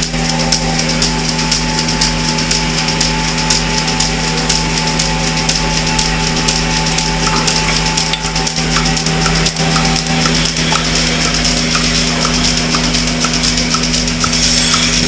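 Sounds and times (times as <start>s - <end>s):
milking machine motor humming: 0.0s - 15.0s.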